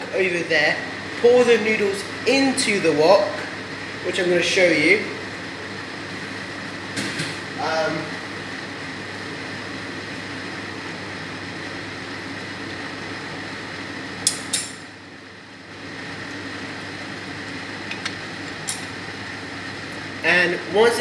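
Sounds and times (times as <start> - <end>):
kitchen appliance running: 0.0 - 21.0.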